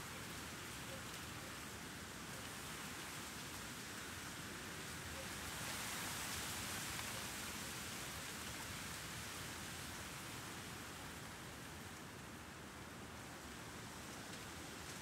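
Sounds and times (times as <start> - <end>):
light city noise: 0.0 - 15.0.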